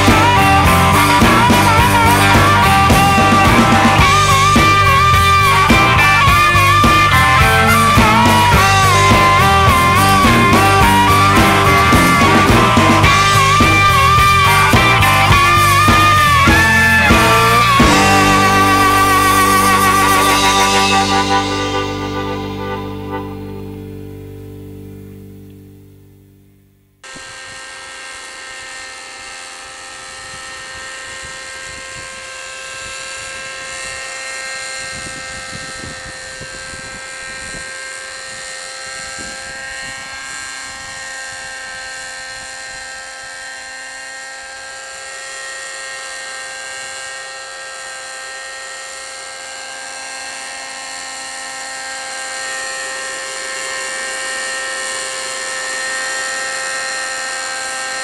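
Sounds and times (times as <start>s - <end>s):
model helicopter engine whining: 0.0s - 26.3s, 27.0s - 58.0s.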